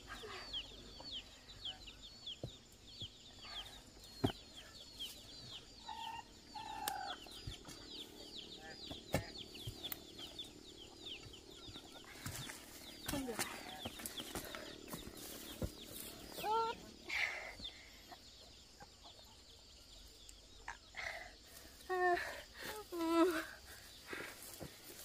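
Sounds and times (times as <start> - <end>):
chickens peeping: 0.0 - 17.0, 17.6 - 20.9.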